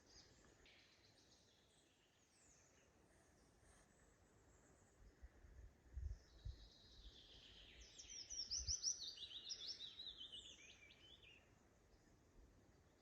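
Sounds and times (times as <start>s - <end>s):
faint outdoor hiss: 0.0s - 13.0s
songbird singing: 0.0s - 13.0s.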